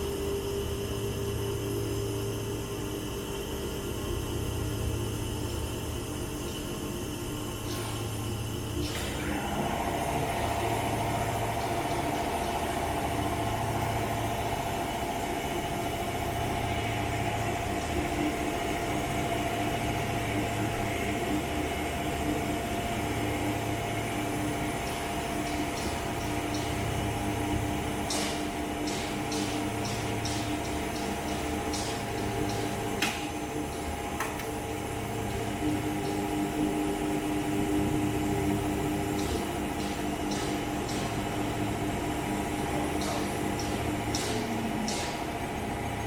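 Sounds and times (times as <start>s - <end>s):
high steady whine: 0.0s - 46.0s
grinder machine humming: 8.0s - 46.0s.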